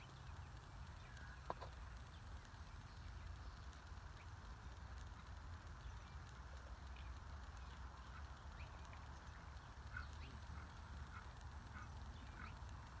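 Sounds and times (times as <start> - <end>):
bird chirping: 0.0 - 13.0
low steady rumble: 0.0 - 13.0.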